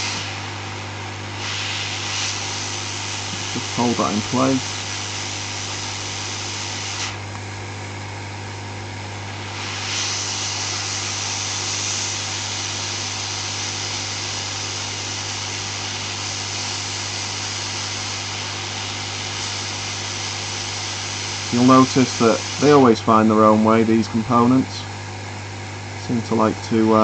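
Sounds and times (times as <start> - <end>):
hot air blower hissing: 0.0 - 27.0
low fan hum: 0.0 - 27.0.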